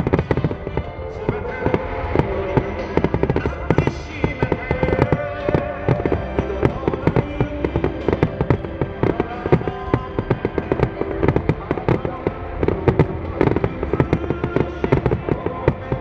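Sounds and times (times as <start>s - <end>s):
fireworks bursting with sharp bangs: 0.0s - 16.0s
music playing: 0.0s - 16.0s.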